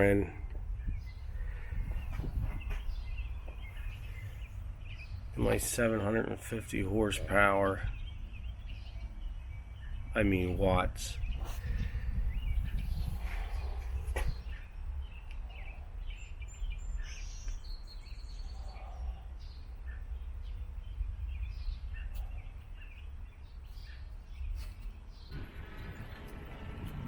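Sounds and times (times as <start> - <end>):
birds chirping: 0.0 - 27.0
wind rumble on microphone: 0.0 - 27.0.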